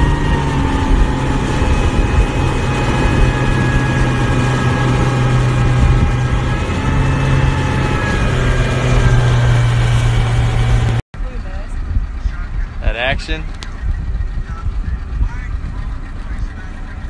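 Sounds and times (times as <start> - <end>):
motorboat engine humming: 0.0 - 17.0
wind buffeting microphone: 0.0 - 17.0.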